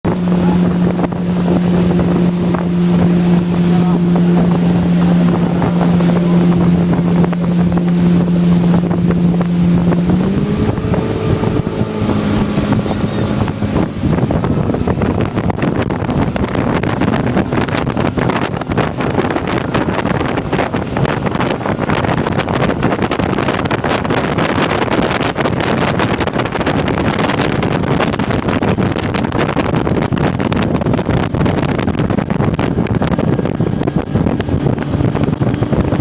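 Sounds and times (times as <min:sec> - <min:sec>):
motorboat engine running: 0:00.0 - 0:36.0
rushing water: 0:00.0 - 0:36.0
wind noise on microphone: 0:00.0 - 0:36.0.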